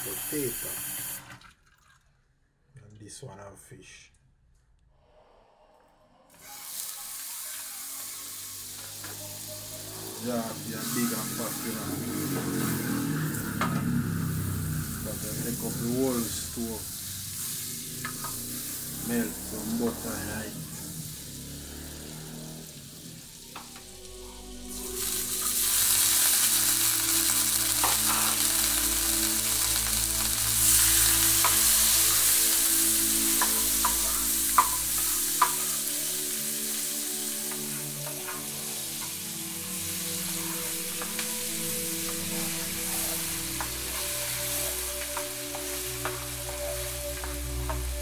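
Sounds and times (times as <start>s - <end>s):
butter sizzling in frying pan: 6.4s - 23.7s, 24.8s - 48.0s.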